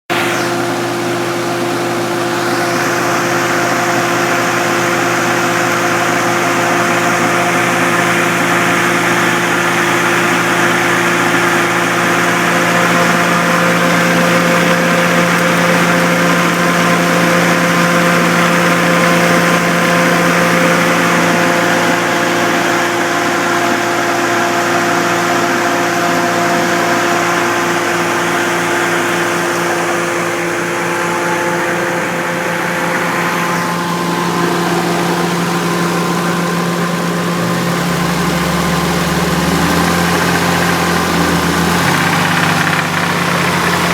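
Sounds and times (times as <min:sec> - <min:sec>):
car engine idling with knock: 0:00.1 - 0:43.9.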